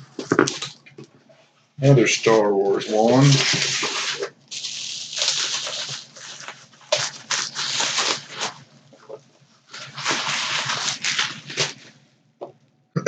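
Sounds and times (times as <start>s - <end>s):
packaging rustling and crinkling: 0.0s - 1.0s, 2.2s - 12.0s.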